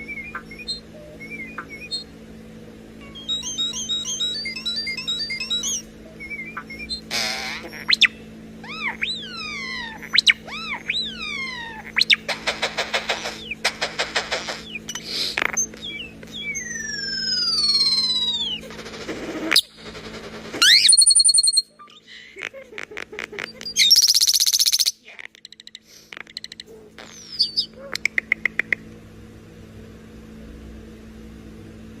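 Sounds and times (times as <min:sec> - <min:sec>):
starling mimicry calls: 0:00.0 - 0:02.1, 0:03.2 - 0:22.2, 0:23.5 - 0:28.8
faint steady hum: 0:00.0 - 0:32.0.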